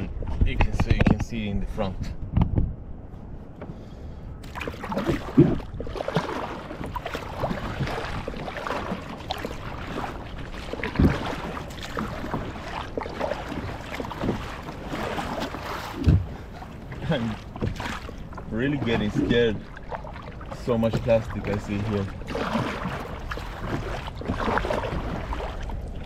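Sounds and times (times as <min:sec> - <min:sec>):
kayak thumps: 0:04.4 - 0:26.0
paddle splashing in water: 0:04.4 - 0:26.0.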